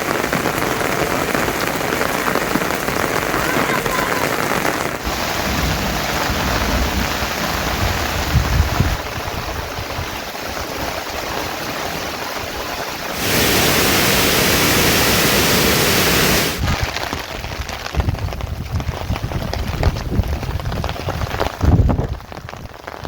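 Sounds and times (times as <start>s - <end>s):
rain falling: 0.0s - 23.0s
rush of water: 0.0s - 23.0s.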